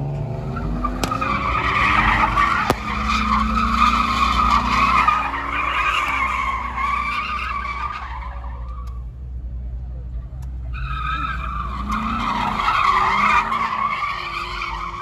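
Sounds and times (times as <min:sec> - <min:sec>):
car engine revving: 0:00.0 - 0:15.0
car tyres squealing: 0:00.2 - 0:09.6, 0:10.3 - 0:15.0.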